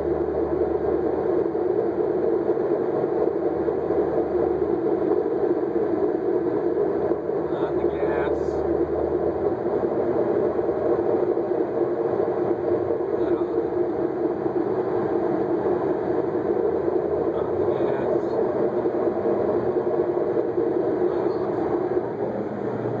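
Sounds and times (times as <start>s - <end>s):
steady vehicle drone: 0.0s - 23.0s.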